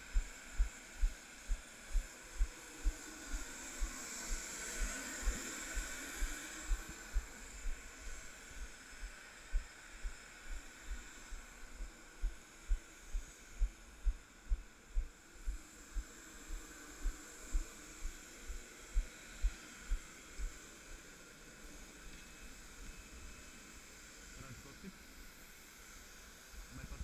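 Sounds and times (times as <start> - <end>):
steady high hiss: 0.0 - 27.0.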